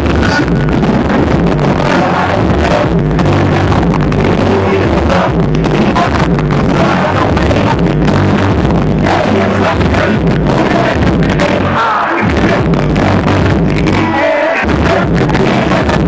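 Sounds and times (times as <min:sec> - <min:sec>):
loud music with heavy bass: 0:00.0 - 0:16.0.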